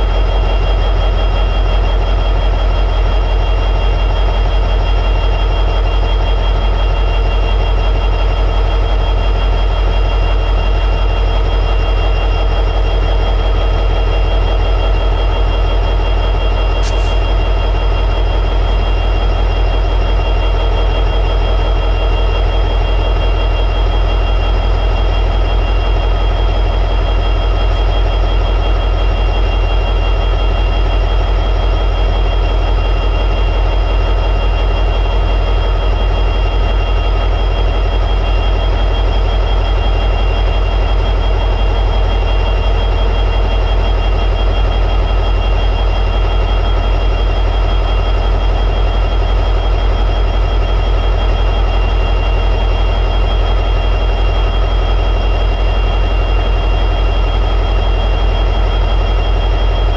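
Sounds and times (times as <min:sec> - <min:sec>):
diesel locomotive engine idling: 0:00.0 - 0:59.9.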